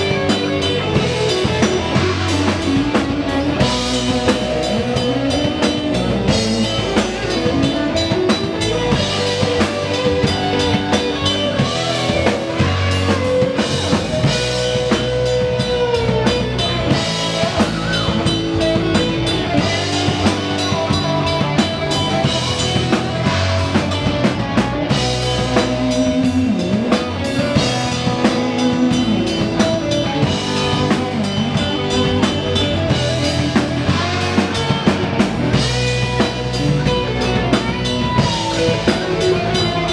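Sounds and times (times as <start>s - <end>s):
distorted electric guitar: 0.0s - 39.9s
drum kit with bass drum: 0.0s - 39.9s.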